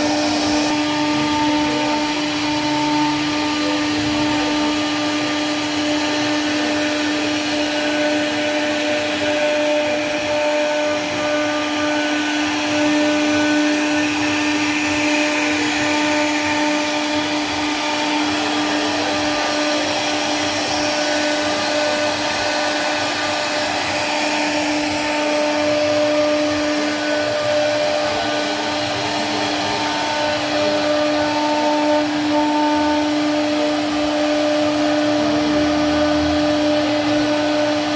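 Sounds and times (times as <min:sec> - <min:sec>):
router spindle whining: 0:00.0 - 0:37.9.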